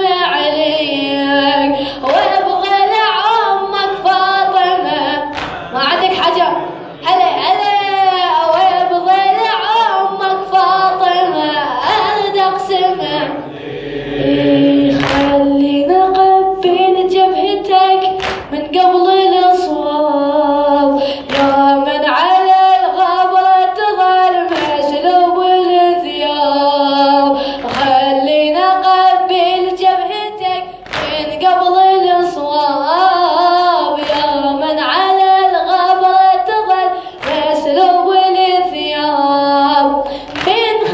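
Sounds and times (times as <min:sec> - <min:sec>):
sharp rhythmic slaps: 0:00.0 - 0:13.2, 0:14.8 - 0:15.6, 0:16.2 - 0:19.8, 0:21.0 - 0:40.9.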